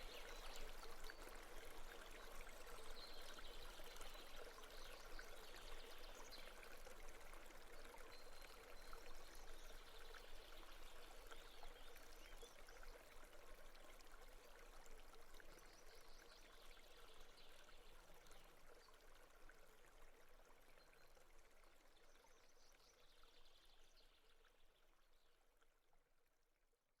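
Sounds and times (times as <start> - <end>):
faint flowing stream: 0.0 - 27.0.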